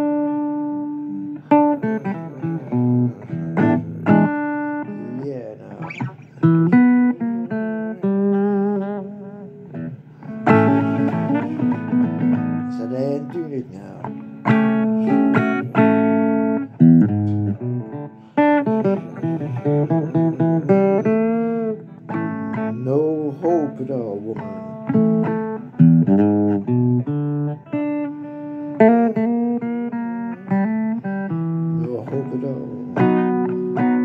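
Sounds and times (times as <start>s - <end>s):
blues guitar bent notes: 0.0s - 34.0s
hard-struck guitar chord: 0.0s - 34.0s.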